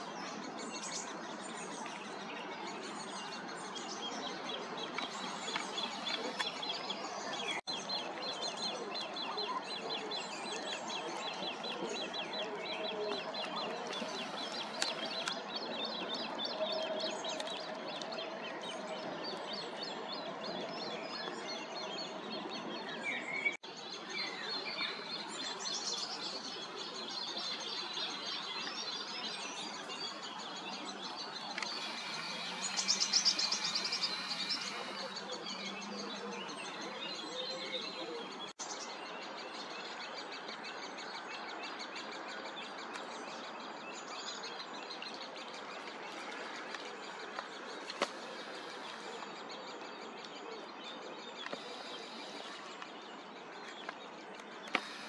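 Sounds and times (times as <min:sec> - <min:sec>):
birds chirping and singing: 0:00.0 - 0:55.0
outdoor background noise: 0:00.0 - 0:55.0.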